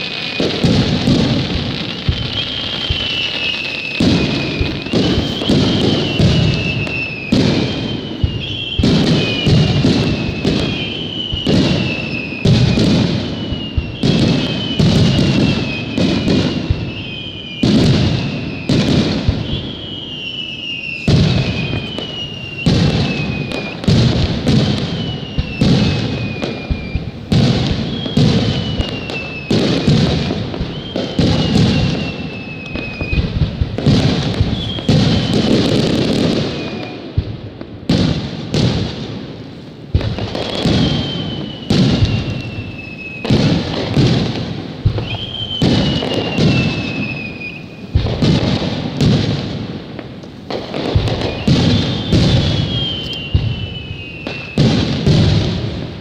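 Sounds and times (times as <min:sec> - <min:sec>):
descending firework whistle: 0:00.0 - 0:56.0
fireworks bangs and crackles: 0:00.0 - 0:56.0.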